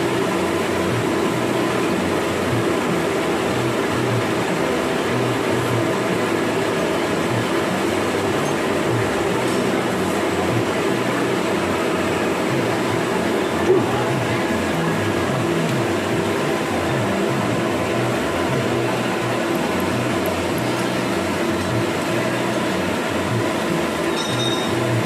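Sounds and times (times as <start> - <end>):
workshop machine humming: 0.0 - 25.0.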